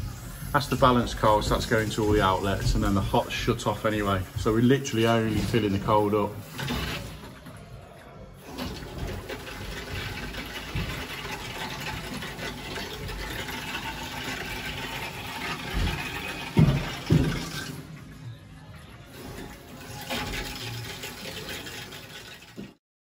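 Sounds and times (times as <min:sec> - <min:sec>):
water hissing through pipes: 0:00.0 - 0:22.8.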